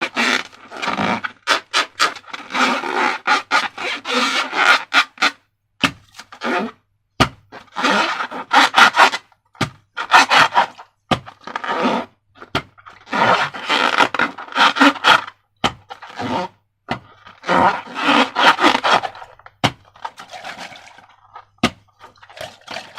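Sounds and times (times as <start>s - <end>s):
rubbing and scraping of balloons: 0.0s - 22.9s.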